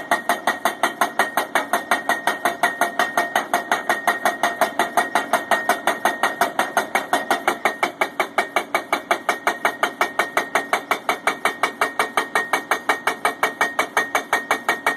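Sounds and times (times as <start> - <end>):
hammer pounding steel pipe: 0.0 - 14.9
pipe ringing: 0.0 - 14.9.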